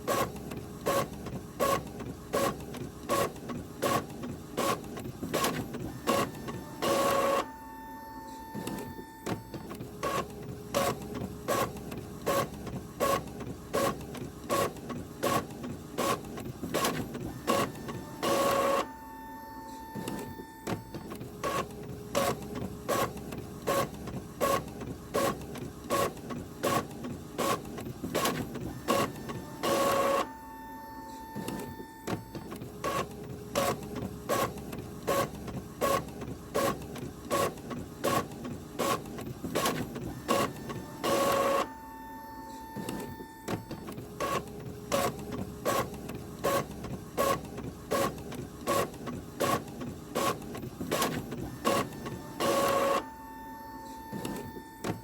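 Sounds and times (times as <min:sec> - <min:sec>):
office printer printing: 0:00.0 - 0:55.0
printer whirr: 0:00.0 - 0:55.0.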